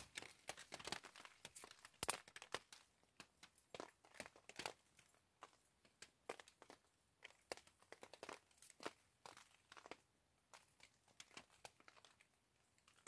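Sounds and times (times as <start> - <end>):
raindrops tapping on plastic tarp: 0.0 - 13.0.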